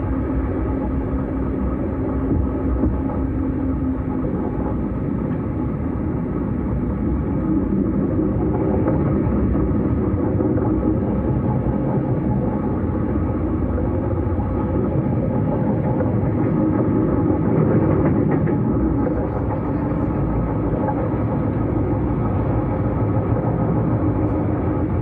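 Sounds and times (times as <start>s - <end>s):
steady hum: 0.0s - 25.0s
train wheels rumbling on rails: 0.0s - 25.0s.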